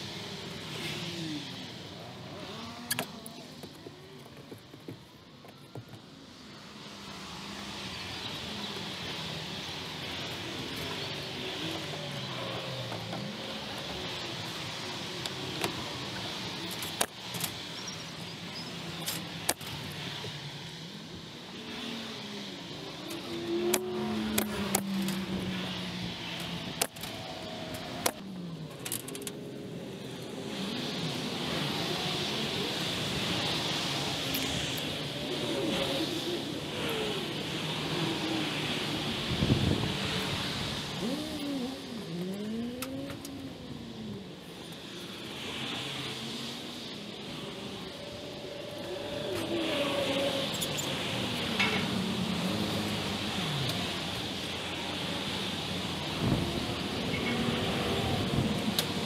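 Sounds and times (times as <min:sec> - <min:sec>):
road traffic hum: 0:00.0 - 0:59.0.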